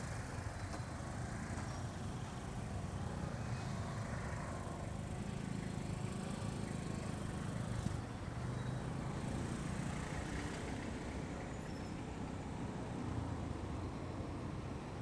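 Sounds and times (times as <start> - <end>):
surrounding traffic noise: 0.0 - 15.0.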